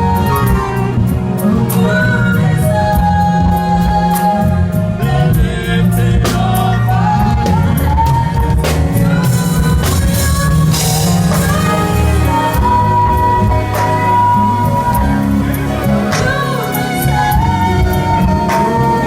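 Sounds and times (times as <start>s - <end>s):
gospel band playing: 0.0s - 19.0s
singers holding long notes: 0.0s - 19.0s.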